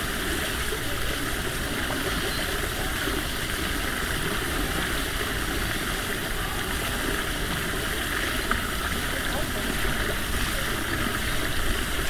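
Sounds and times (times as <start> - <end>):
stream flowing water: 0.0 - 12.0.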